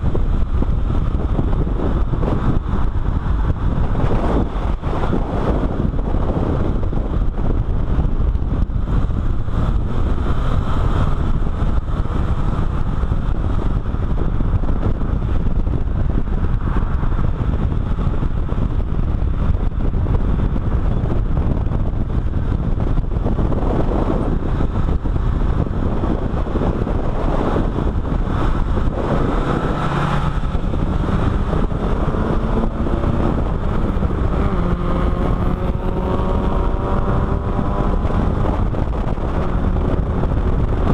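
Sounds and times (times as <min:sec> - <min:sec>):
car engine: 0:00.0 - 0:40.9
road noise: 0:00.0 - 0:40.9
wind rushing over camera: 0:00.0 - 0:40.9.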